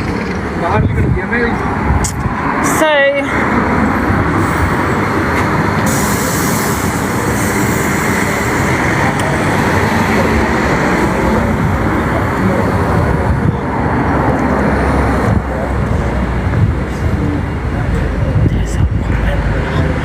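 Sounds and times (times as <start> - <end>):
street noise with low rumble: 0.0 - 20.0.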